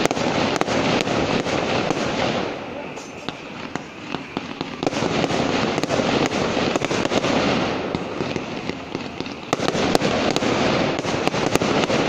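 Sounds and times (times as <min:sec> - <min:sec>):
fireworks cracking and popping: 0:00.0 - 0:12.0
loud firework bangs: 0:00.0 - 0:12.0
rockets launching: 0:00.0 - 0:12.0.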